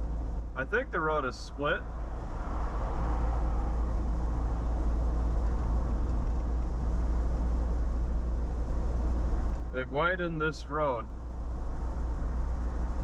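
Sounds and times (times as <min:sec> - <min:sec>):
low engine rumble: 0:00.0 - 0:13.0
tyre and road noise: 0:00.0 - 0:13.0.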